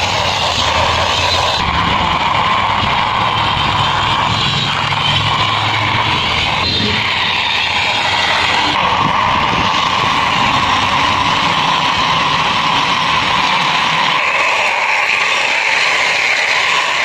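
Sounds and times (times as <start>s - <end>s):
toy wheels rolling on concrete: 0.0s - 17.0s.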